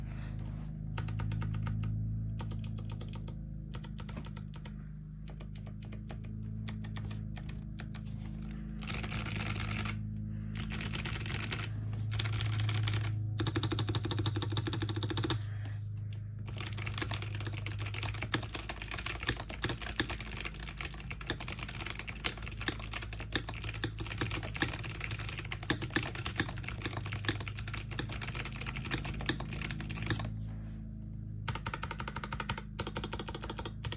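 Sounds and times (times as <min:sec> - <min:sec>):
clicky mechanical keyboard typing: 0:01.0 - 0:08.1, 0:08.8 - 0:10.0, 0:10.6 - 0:15.5, 0:16.1 - 0:30.3, 0:31.5 - 0:33.9.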